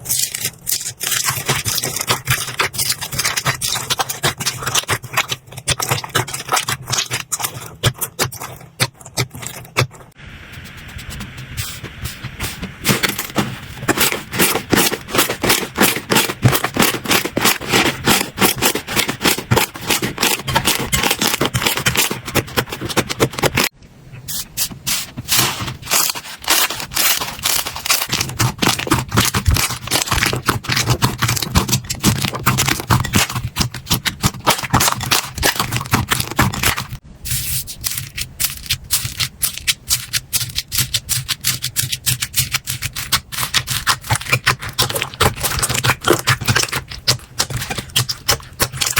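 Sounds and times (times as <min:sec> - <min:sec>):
slime crackling and popping: 0:00.0 - 0:10.1, 0:12.8 - 0:23.8, 0:25.3 - 0:37.0, 0:37.8 - 0:48.9.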